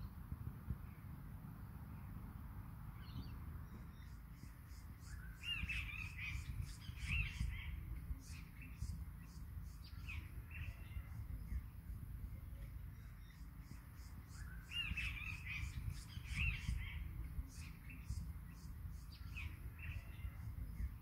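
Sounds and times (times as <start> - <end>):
steady low rumble: 0.0 - 21.0
wild birds calling: 2.9 - 21.0.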